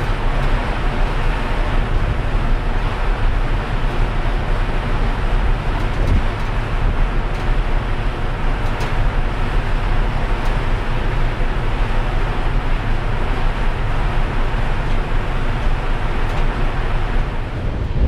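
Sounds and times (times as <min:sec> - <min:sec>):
churning wake water: 0:00.0 - 0:18.0
ship engines rumbling: 0:00.0 - 0:18.0.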